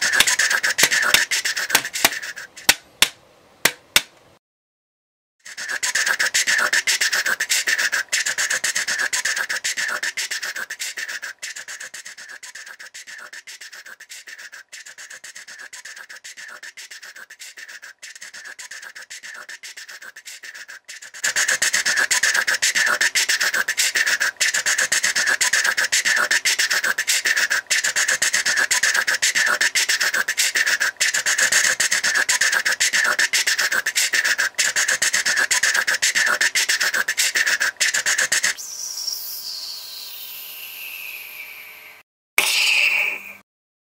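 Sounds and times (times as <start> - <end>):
rasping scratching train effect: 0.0 - 2.8, 5.5 - 38.6.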